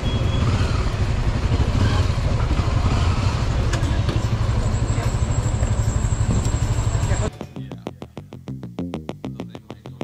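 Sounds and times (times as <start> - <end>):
motorcycle engine idling: 0.0 - 8.4.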